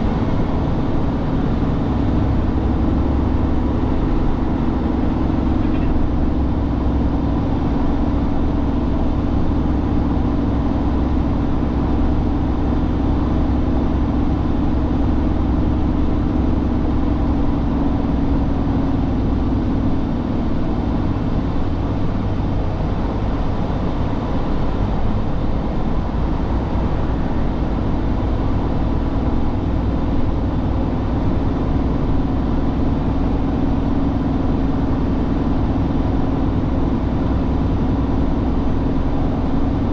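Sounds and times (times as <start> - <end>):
truck engine humming: 0.0 - 39.9.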